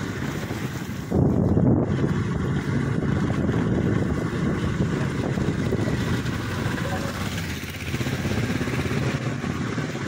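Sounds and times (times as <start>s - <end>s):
tyres hissing on wet road: 0.0s - 10.0s
wind rushing over microphone: 0.0s - 10.0s
motorbike engine running: 1.1s - 10.0s.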